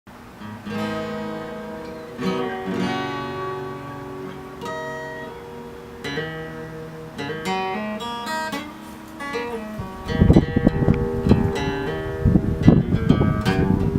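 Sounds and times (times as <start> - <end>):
acoustic guitar playing: 0.1 - 13.9.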